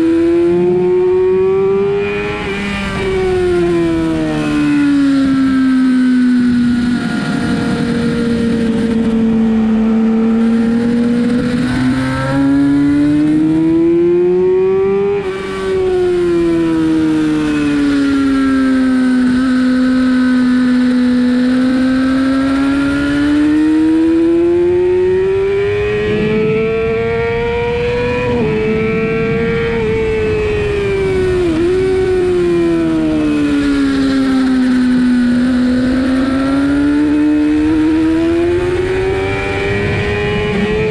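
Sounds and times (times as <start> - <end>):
sportbike engine accelerating: 0.0 - 40.9
wind and road rush: 0.0 - 40.9.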